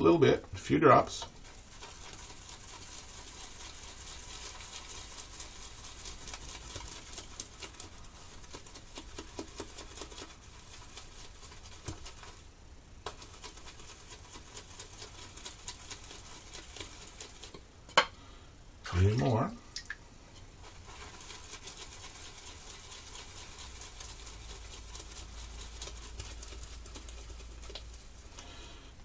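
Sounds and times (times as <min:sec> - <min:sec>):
shaving brush whipping lather: 0:00.6 - 0:17.6, 0:20.6 - 0:28.4.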